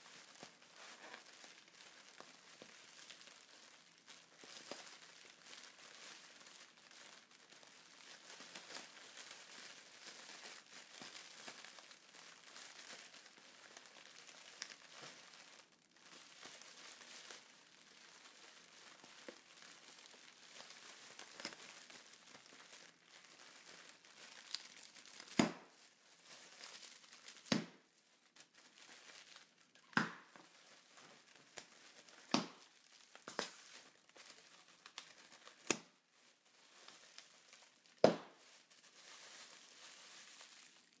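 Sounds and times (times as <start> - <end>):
plastic air pillows crinkling: 0.0 - 41.0.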